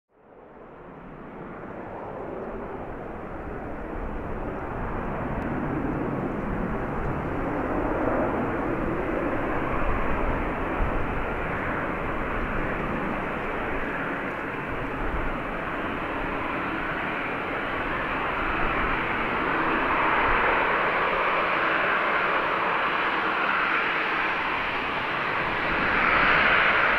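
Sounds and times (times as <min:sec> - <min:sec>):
jet engines at taxi thrust: 0:00.1 - 0:26.9.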